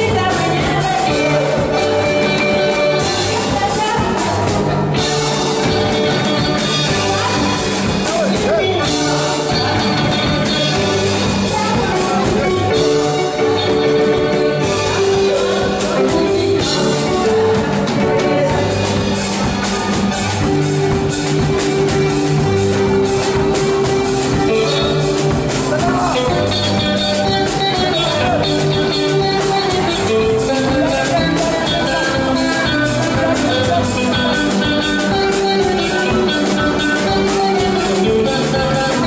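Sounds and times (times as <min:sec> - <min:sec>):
band playing dance music: 0:00.0 - 0:39.0.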